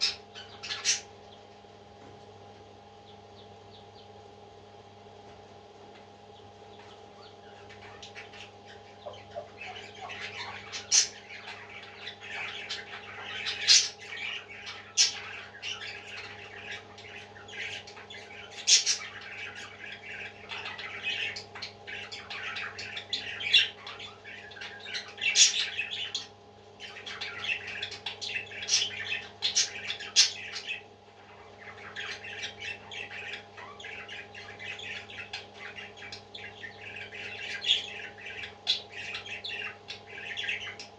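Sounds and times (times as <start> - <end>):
baby parrots squawking: 0.0 - 1.2, 6.7 - 40.9
steady low hum: 0.0 - 40.9.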